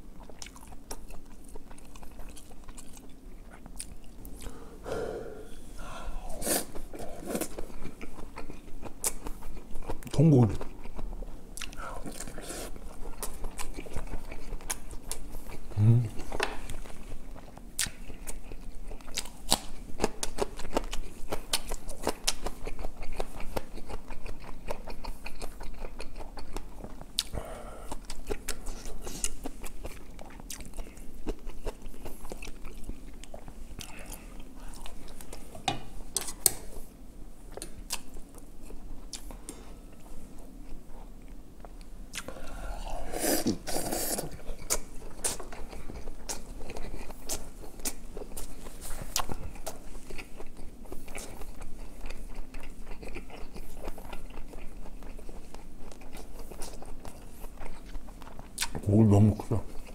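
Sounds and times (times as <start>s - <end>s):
wet chewing mouth noises: 0.2s - 4.6s, 6.1s - 35.5s, 41.6s - 58.9s.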